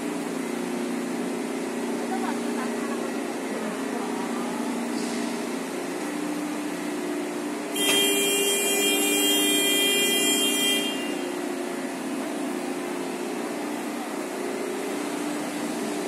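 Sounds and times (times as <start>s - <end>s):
factory machinery drone: 0.0s - 16.0s
machine with high steady whines: 0.0s - 16.0s.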